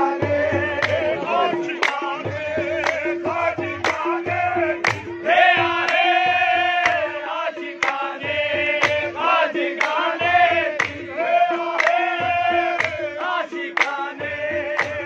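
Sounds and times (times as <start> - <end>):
men chanting a devotional song: 0.0 - 15.0.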